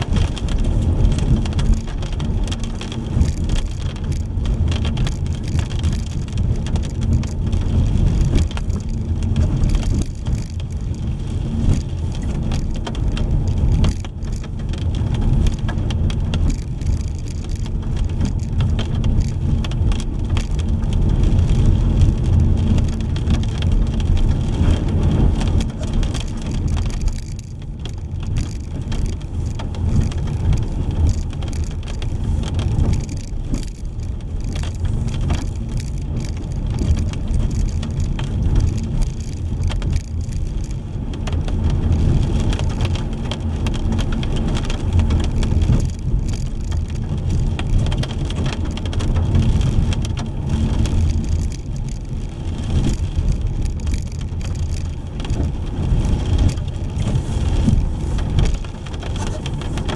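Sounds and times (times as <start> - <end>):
rain and wet tyres hissing: 0.0 - 59.9
road and engine rumble: 0.0 - 59.9.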